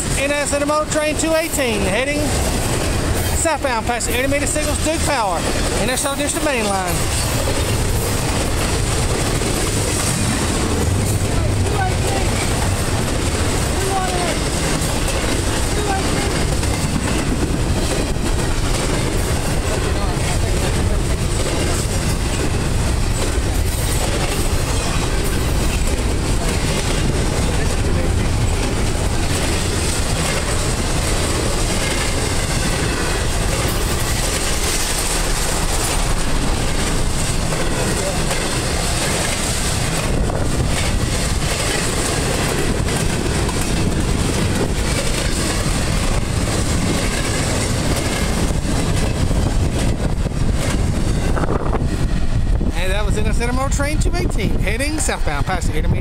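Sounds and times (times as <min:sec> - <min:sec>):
wheels clicking over rail joints: 0:00.0 - 0:51.5
train wheels rolling on rails: 0:00.0 - 0:56.0.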